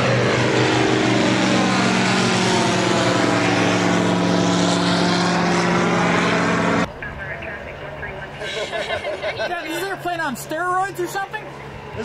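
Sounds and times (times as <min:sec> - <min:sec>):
light airplane engine drone: 0:00.0 - 0:12.0.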